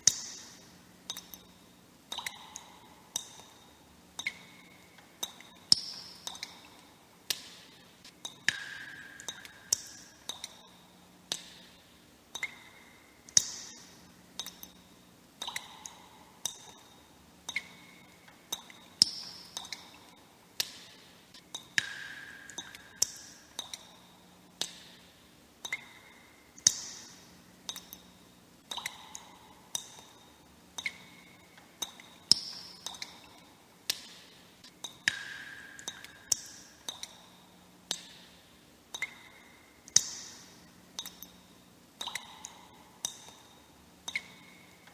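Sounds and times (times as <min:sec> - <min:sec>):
water drops plinking into water: 0:01.1 - 0:01.5, 0:02.1 - 0:03.6, 0:04.2 - 0:07.5, 0:08.2 - 0:10.7, 0:12.3 - 0:14.8, 0:15.4 - 0:25.0, 0:25.6 - 0:28.1, 0:28.7 - 0:37.3, 0:37.9 - 0:38.2, 0:38.9 - 0:41.4, 0:42.0 - 0:44.9.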